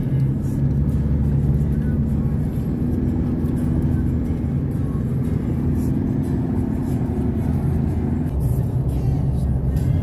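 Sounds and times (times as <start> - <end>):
car engine and tyre rumble: 0.0 - 10.0
constant hum: 0.0 - 10.0.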